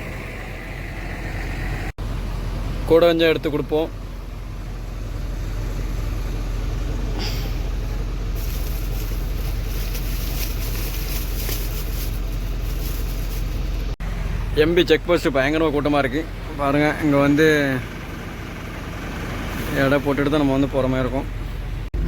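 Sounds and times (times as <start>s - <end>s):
truck diesel engine humming: 0.0s - 22.0s.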